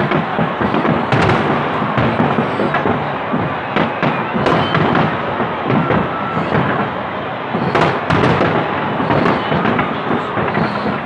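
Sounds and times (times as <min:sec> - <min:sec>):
fireworks bursting and crackling: 0:00.0 - 0:11.0
sharp firework bangs: 0:00.0 - 0:11.0.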